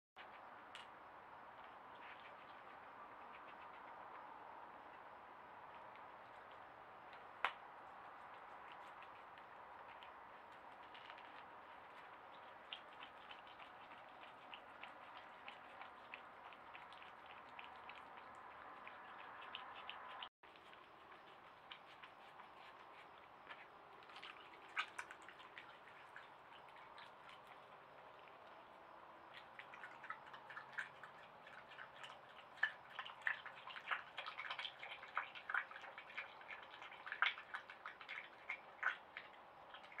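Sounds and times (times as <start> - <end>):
animal chewing clicks: 4.9 - 40.0.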